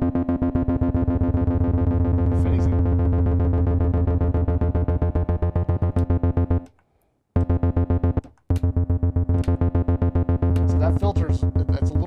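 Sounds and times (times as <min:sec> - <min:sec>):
buzzy bass synthesizer notes: 0:00.0 - 0:06.7, 0:07.4 - 0:12.0.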